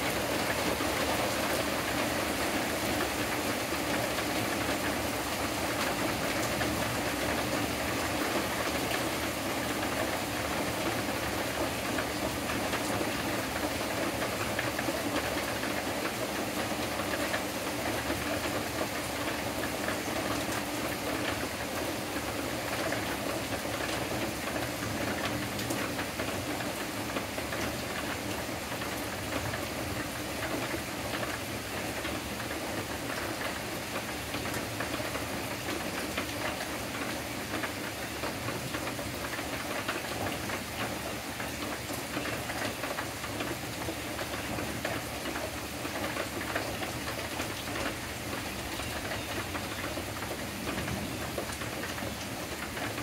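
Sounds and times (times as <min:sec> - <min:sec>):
rain falling on leafy trees: 0:00.0 - 0:53.0.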